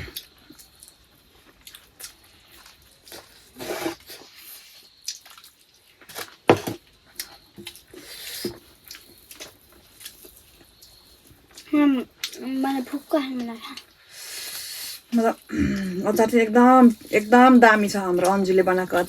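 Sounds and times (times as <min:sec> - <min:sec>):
wet chewing and smacking: 0:00.0 - 0:19.0.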